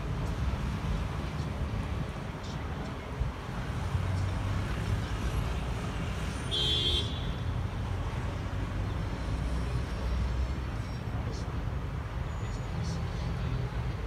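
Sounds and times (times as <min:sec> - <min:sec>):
distant engines rumbling: 0:00.0 - 0:14.0.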